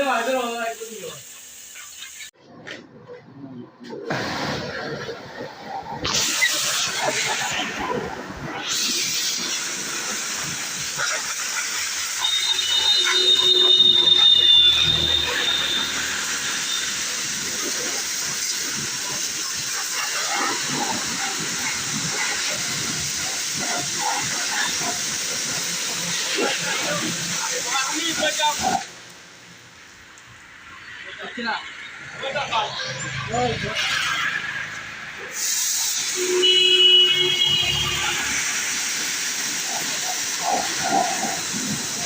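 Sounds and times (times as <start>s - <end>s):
pressure washer spraying water: 0.0s - 2.4s, 4.0s - 31.0s, 32.9s - 42.0s.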